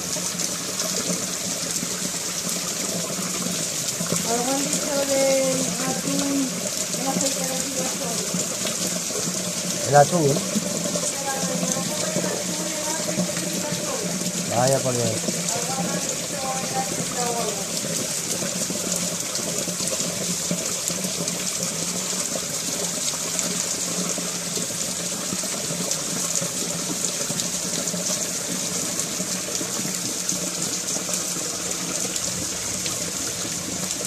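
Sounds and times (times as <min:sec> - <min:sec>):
heavy rain on paving and tiles: 0:00.0 - 0:34.0
runoff water spilling: 0:00.0 - 0:34.0.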